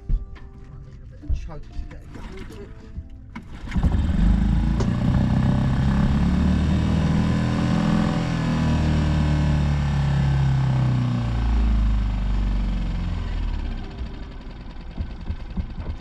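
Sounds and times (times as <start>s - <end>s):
small boat engine running unevenly: 2.0s - 16.0s.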